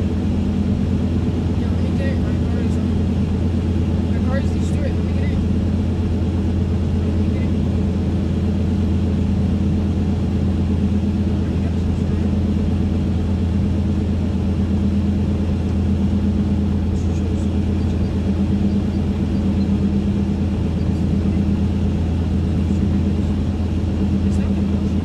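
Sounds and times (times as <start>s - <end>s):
car cruising rumble inside cabin: 0.0s - 25.0s
constant hum: 0.0s - 25.0s.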